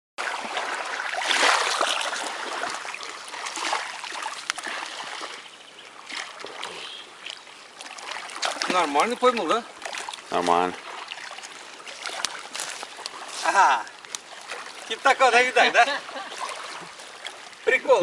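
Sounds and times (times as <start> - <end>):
water splashing and trickling: 0.2 - 18.0.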